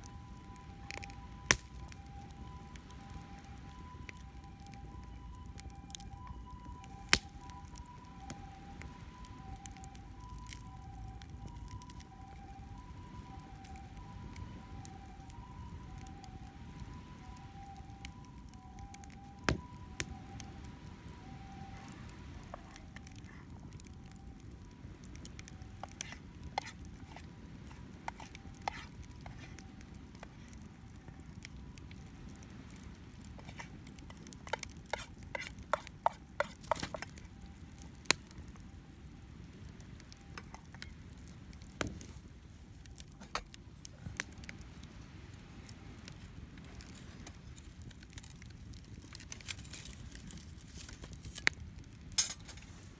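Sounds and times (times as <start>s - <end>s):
distant two-tone siren: 0.0s - 43.6s
campfire crackling and popping: 0.0s - 52.9s
wind: 0.0s - 52.9s.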